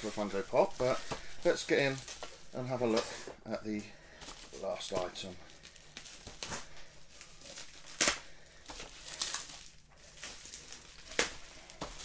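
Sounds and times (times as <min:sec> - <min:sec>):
bubble wrap crinkling and tearing: 0:00.0 - 0:12.0.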